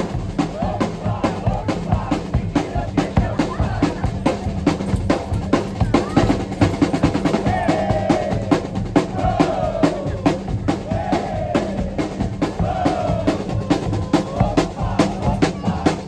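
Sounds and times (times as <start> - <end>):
fast dense drum hits: 0.0 - 16.0
heavy steady bass: 0.0 - 16.0.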